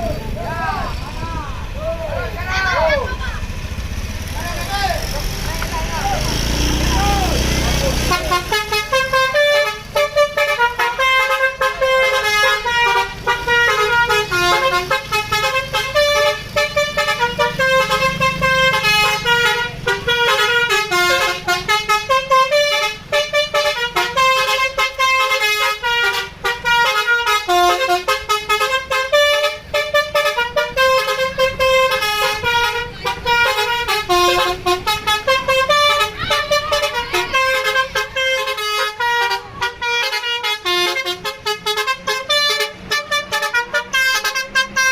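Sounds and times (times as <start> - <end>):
multi-tone air horn melody: 7.4 - 44.9.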